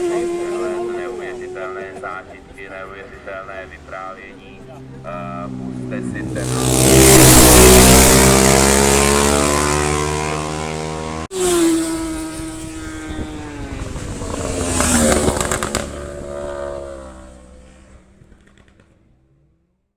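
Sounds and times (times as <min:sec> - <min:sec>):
racing motorcycles passing: 0:00.0 - 0:19.7.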